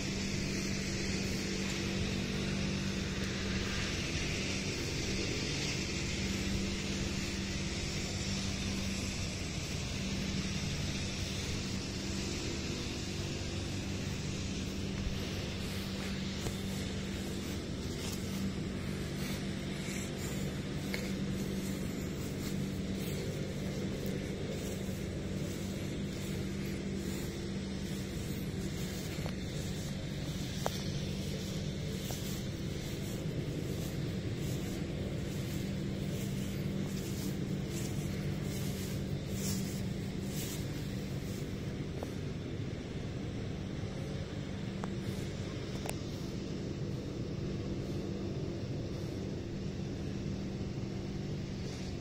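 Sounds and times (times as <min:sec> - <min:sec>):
grass trimmer engine droning: 0:00.0 - 0:52.0.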